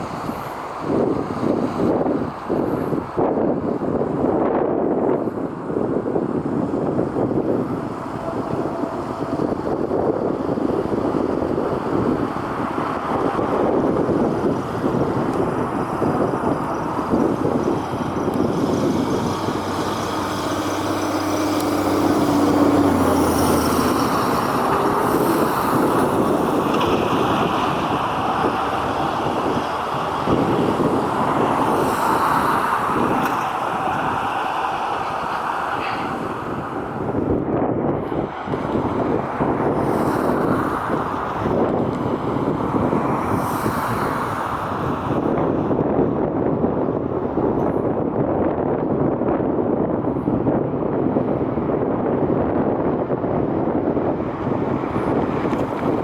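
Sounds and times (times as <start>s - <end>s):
engine and road rumble: 0.0s - 56.0s
wind on microphone: 0.0s - 56.0s.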